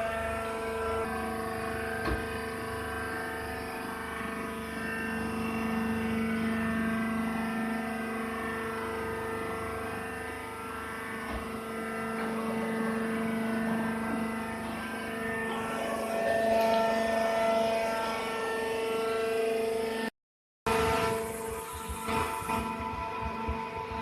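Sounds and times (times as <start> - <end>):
baling machine humming: 0.0 - 20.1, 20.7 - 24.0.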